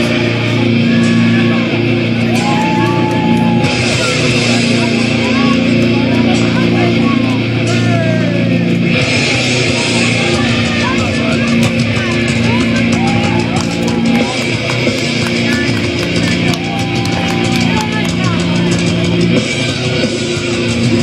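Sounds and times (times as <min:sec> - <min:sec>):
loud rock music: 0:00.0 - 0:21.0.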